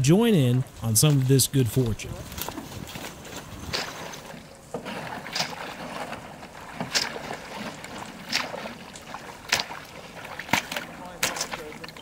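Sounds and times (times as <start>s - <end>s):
footsteps sloshing through water: 0.0s - 12.0s.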